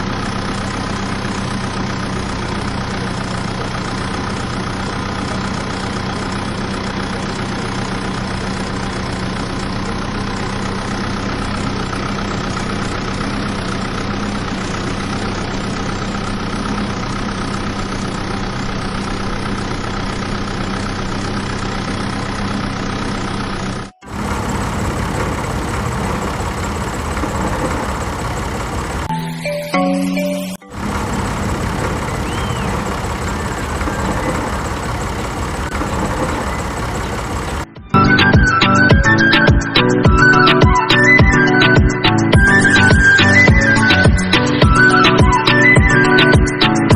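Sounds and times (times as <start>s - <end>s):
rough noisy running sound: 0.0s - 29.1s, 30.7s - 40.8s
engine idling: 0.0s - 29.2s, 30.7s - 46.9s.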